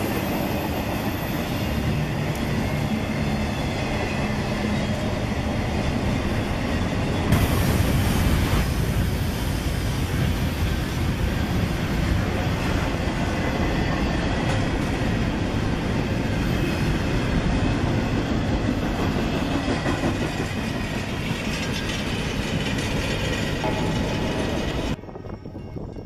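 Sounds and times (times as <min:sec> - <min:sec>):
freight train wheels rolling on rail: 0:00.0 - 0:26.0.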